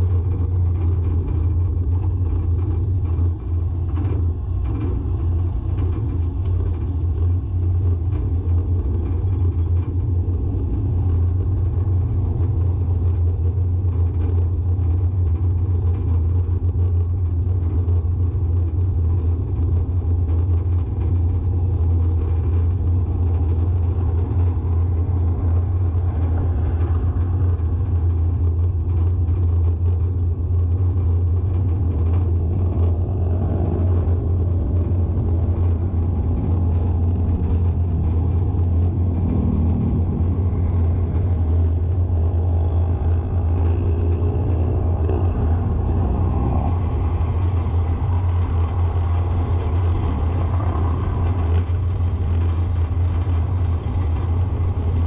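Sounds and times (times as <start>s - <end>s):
car driving on paved street: 0.0s - 55.0s.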